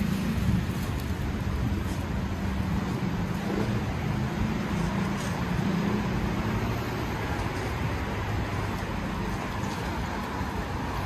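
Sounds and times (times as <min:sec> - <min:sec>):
car and bus engines humming: 0:00.0 - 0:11.0
tyre noise on wet asphalt: 0:00.0 - 0:11.0.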